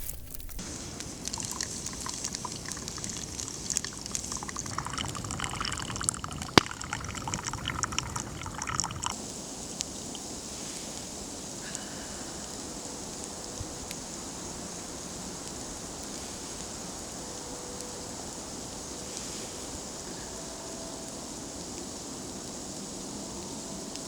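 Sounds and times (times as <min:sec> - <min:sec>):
campfire burning with crackles: 0:00.0 - 0:24.0.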